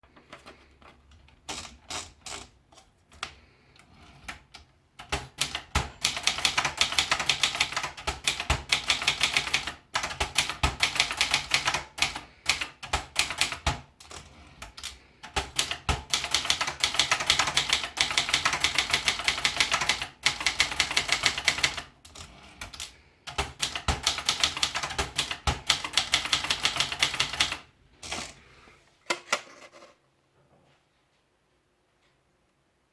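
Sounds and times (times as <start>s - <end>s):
manual typewriter keystrokes: 0.2s - 28.4s.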